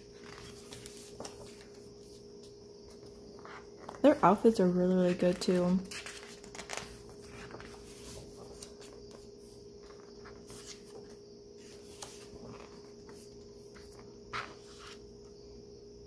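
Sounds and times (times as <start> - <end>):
book pages turning: 0.0 - 4.0, 5.0 - 15.0
faint steady hum: 0.0 - 16.0.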